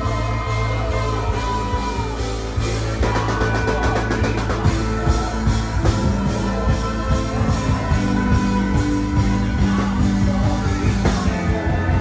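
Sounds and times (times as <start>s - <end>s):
loud rock music: 0.0s - 12.0s.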